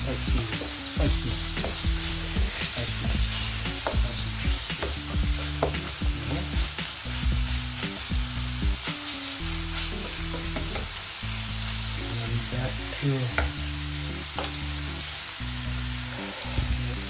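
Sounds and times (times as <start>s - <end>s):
music with low bass line: 0.0s - 17.0s
vegetables sizzling in a pan: 0.0s - 17.0s.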